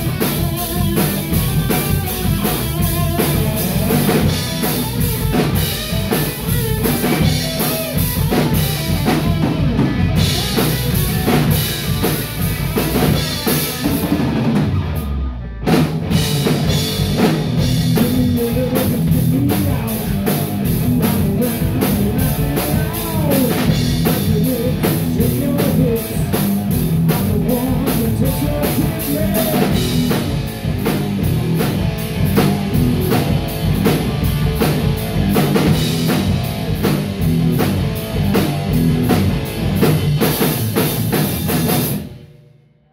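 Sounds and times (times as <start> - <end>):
distorted electric guitar: 0.0 - 42.5
drum kit: 0.0 - 42.7
electric bass: 0.0 - 42.9.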